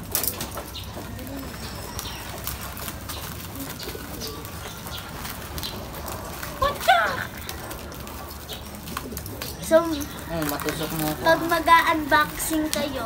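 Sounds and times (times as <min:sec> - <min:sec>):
pigeons cooing: 0:00.0 - 0:13.0
plastic wrap crackling: 0:00.0 - 0:13.0.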